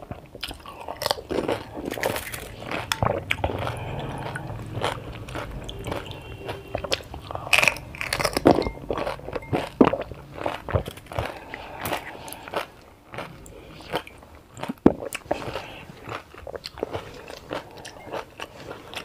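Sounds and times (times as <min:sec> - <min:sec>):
crunchy food being chewed: 0:00.0 - 0:19.0.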